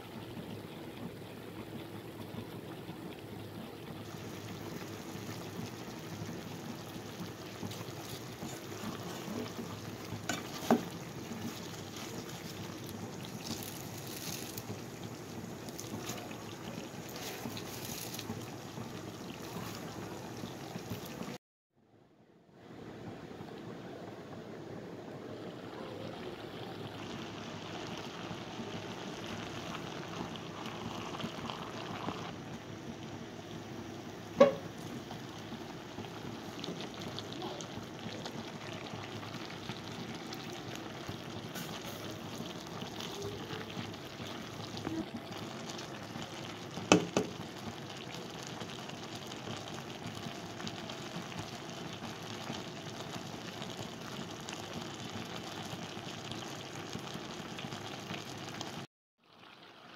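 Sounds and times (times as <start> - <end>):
food sizzling in a frying pan: 0.0 - 21.4, 25.6 - 59.9.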